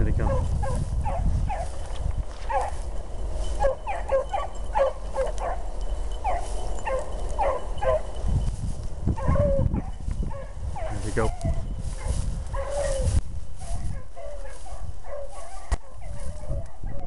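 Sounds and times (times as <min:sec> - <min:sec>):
steady low rumble: 0:00.0 - 0:15.1
hounds baying: 0:00.2 - 0:17.0.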